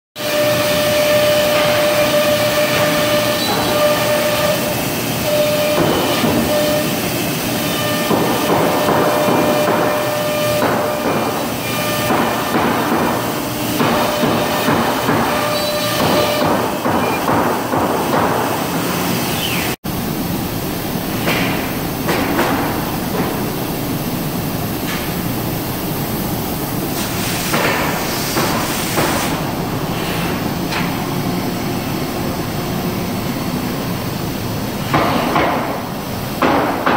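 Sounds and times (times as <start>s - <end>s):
cnc machine and dust extraction: 0.2s - 35.0s.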